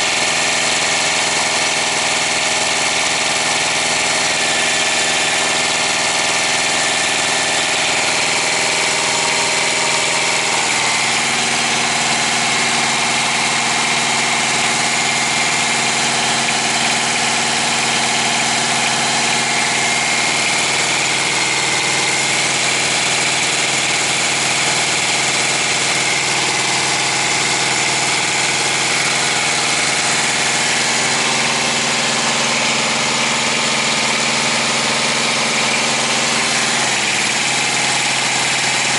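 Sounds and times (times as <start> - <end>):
small diesel engine idling: 0.0 - 38.9.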